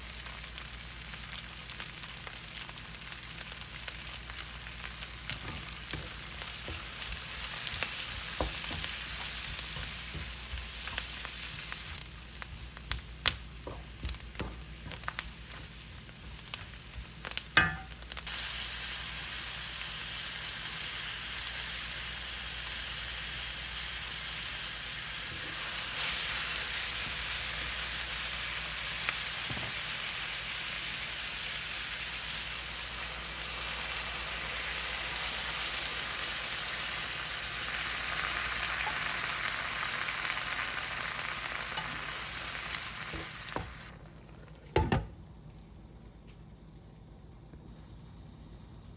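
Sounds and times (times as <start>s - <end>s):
food sizzling in a pan: 0.0s - 43.9s.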